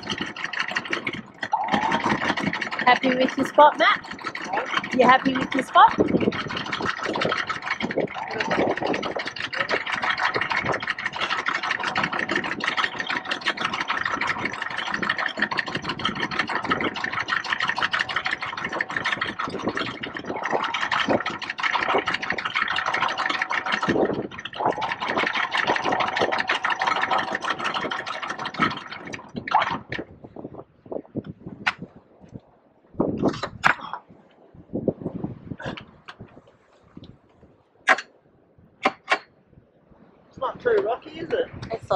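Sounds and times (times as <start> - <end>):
boat engine running: 0.0 - 39.4, 40.0 - 41.9.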